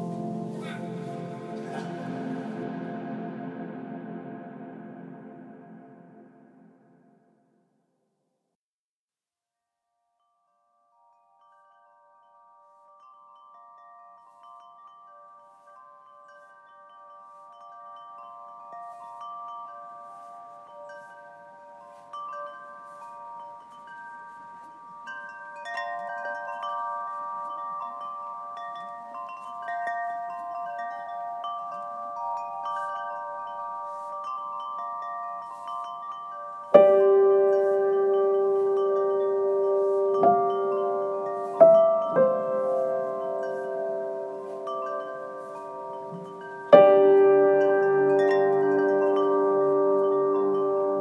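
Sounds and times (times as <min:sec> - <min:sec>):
wind chimes ringing: 0:00.0 - 0:06.7, 0:10.2 - 0:51.0.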